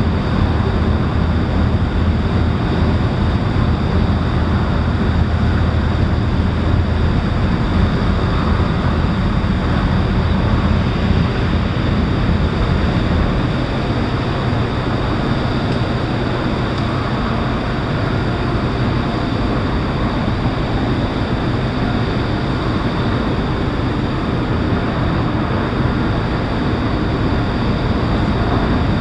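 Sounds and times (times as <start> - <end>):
steady low rumble: 0.0 - 29.0
wind noise on microphone: 0.0 - 29.0.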